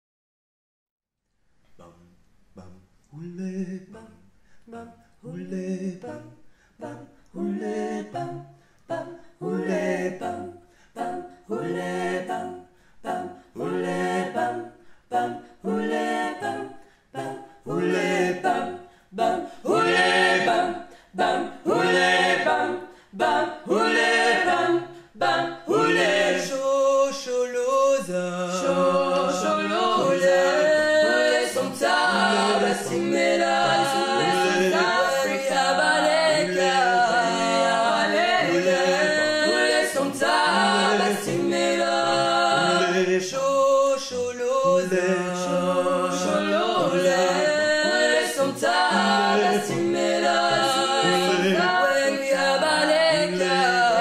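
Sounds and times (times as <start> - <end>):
unaccompanied choir singing: 1.8 - 54.0.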